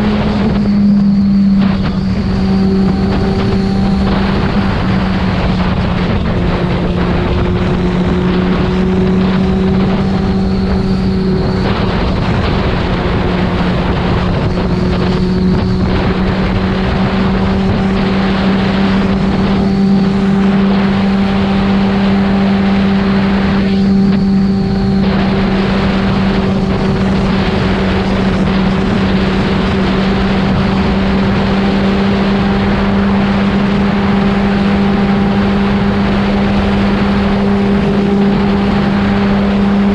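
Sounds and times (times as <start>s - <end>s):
motorcycle engine at steady revs: 0.0s - 39.9s
wind rush over microphone: 0.0s - 39.9s.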